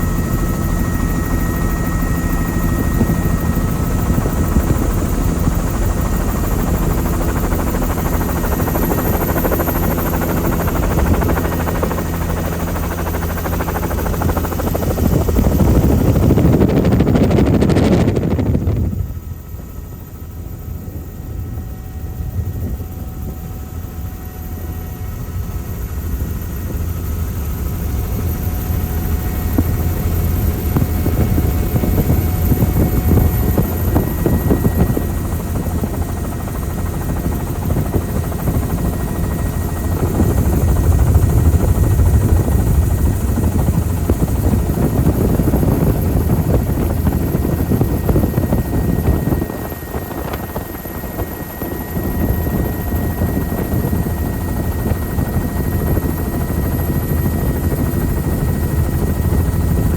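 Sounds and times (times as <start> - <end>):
helicopter rotor and engine rumble: 0.0 - 59.9.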